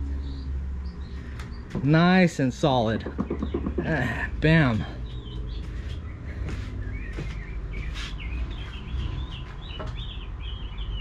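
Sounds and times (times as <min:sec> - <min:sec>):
birds twittering: 0:00.0 - 0:11.0.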